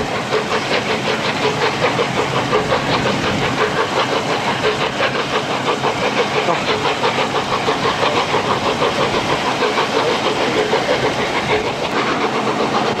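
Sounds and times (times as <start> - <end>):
rail noise: 0.0 - 13.0
steam locomotive exhaust beats: 0.0 - 13.0
wind: 0.0 - 13.0.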